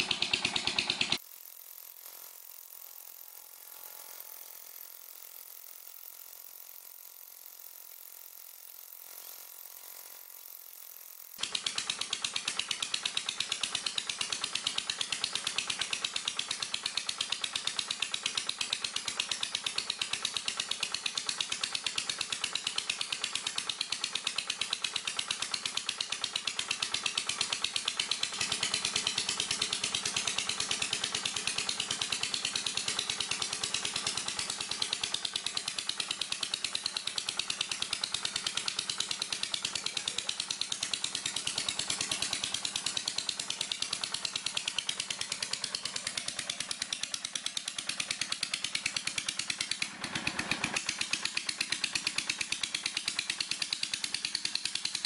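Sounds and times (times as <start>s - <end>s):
small diesel engine running: 0.0s - 55.0s.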